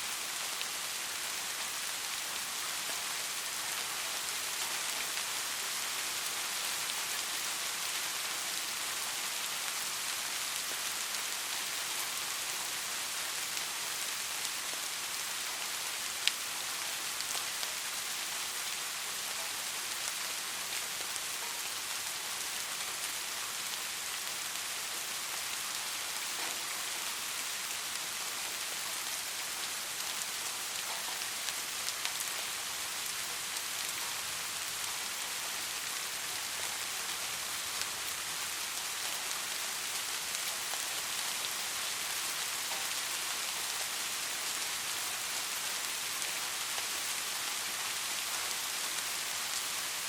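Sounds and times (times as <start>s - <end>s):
soft rain hiss: 0.0s - 50.0s.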